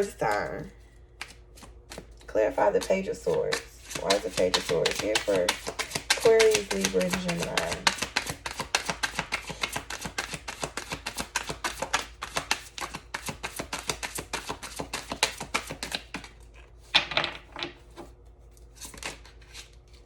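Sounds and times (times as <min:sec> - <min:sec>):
cards being shuffled: 0:00.0 - 0:17.0, 0:17.9 - 0:20.0.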